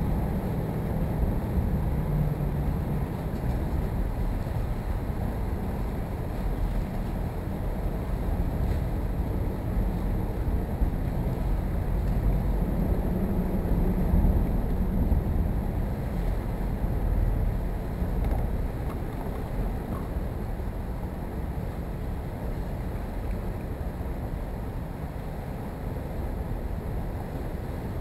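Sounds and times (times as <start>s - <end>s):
wind buffeting microphone: 0.0s - 24.5s.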